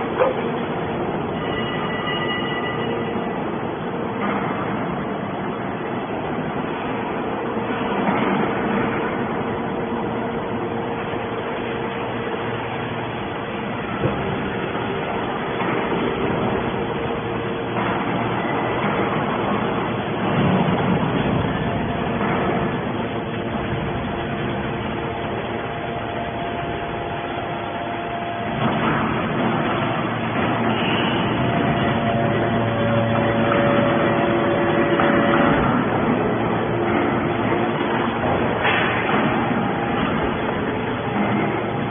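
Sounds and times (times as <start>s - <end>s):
heavy machinery droning: 0.0s - 41.9s
hydraulic baler running: 0.0s - 41.9s.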